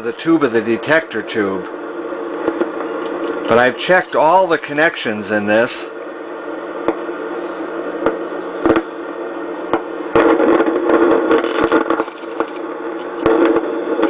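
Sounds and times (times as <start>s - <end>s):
radio receiver hum: 0.0s - 14.0s
sharp static clicks: 0.0s - 14.0s.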